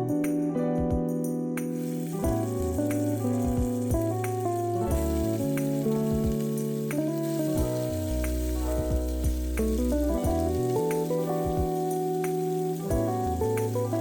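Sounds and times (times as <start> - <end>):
melodic background music: 0.0 - 14.0
small pops and clicks: 1.6 - 14.0
food sizzling in a pan: 1.7 - 14.0.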